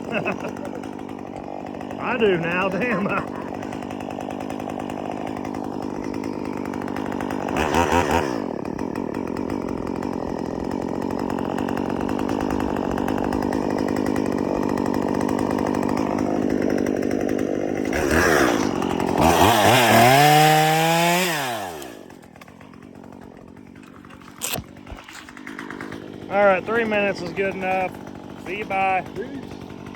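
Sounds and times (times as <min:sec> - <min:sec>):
chainsaw engine idling and revving: 0:00.0 - 0:29.9.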